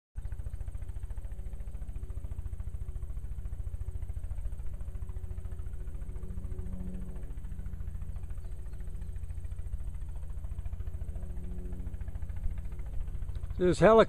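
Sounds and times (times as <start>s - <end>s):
helicopter engine drone: 0.2s - 14.0s
helicopter rotor thudding: 0.2s - 14.0s.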